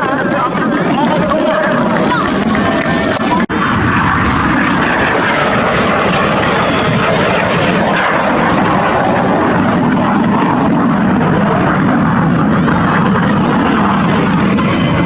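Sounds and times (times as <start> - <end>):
aircraft engines rushing: 0.0 - 15.0.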